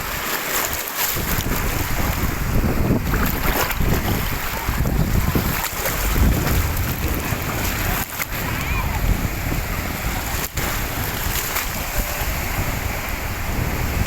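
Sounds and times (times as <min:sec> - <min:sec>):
wind buffeting microphone: 0:01.1 - 0:14.0.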